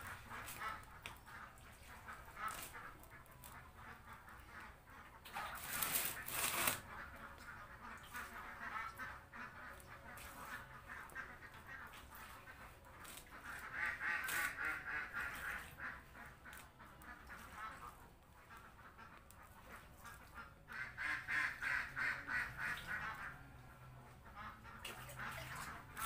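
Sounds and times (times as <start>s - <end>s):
wet squish of kneaded mash: 0.0s - 20.9s
ducks quacking: 0.0s - 26.0s.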